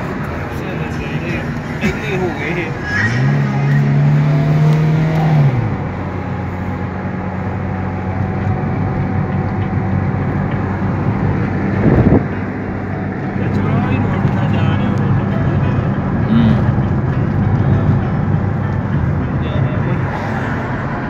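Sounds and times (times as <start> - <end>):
car engine: 0.0 - 21.0
road noise inside car: 0.0 - 21.0.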